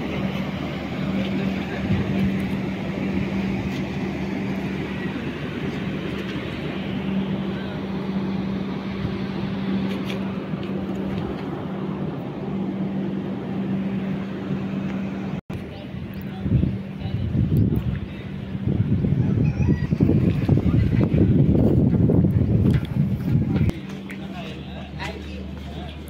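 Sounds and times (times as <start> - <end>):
engine idling hum: 0.0 - 26.0.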